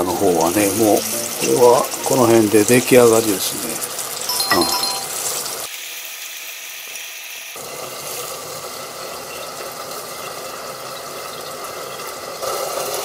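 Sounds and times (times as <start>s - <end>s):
dumplings sizzling in oil: 0.0s - 13.0s.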